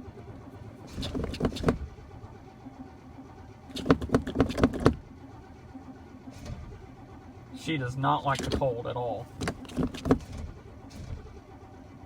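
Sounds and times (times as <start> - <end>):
starter cranking cold engine: 0.0 - 12.0.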